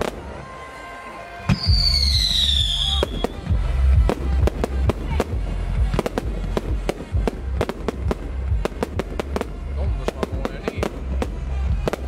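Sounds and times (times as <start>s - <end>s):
fireworks bangs and cracks: 0.0s - 12.0s.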